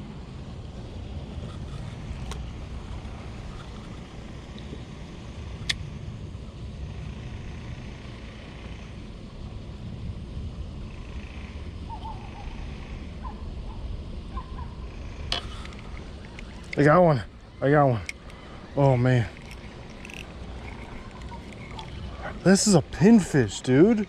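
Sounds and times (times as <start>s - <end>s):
low wind rumble on microphone: 0.0s - 24.0s.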